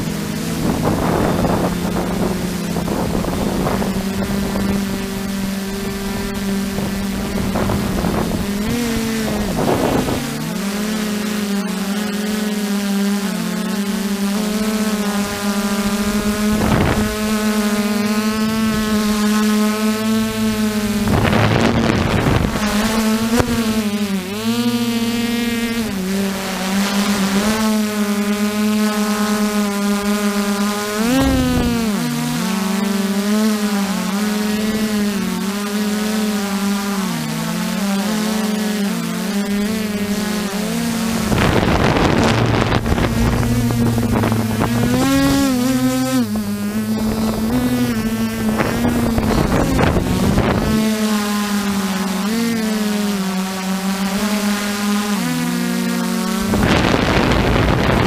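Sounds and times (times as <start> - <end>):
wind on microphone: 0.0 - 11.6, 14.0 - 32.8, 38.5 - 53.2, 56.2 - 58.0
drone motors and propellers humming: 0.0 - 58.0.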